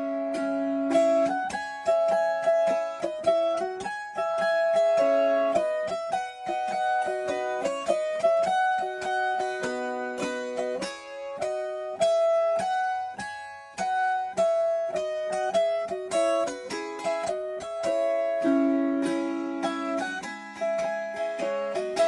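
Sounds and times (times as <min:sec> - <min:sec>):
plucked string instrument melody: 0:00.0 - 0:22.0.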